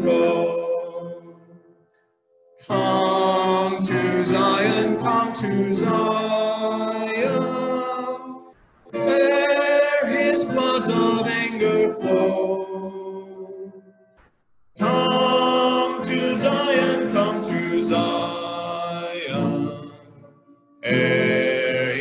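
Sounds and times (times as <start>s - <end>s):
man singing a hymn: 0.0s - 1.1s, 2.7s - 12.9s, 14.8s - 20.1s, 20.8s - 22.0s.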